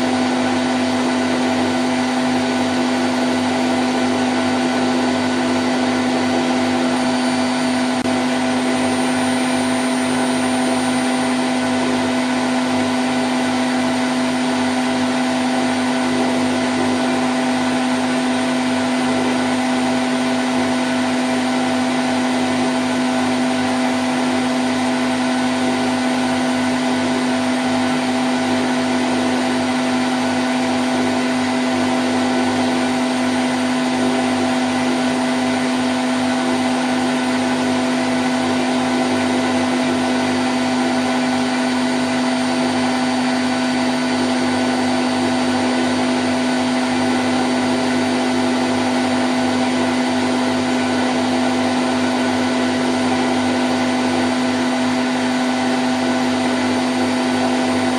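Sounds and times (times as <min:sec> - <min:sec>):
washing machine spinning: 0:00.0 - 0:57.9.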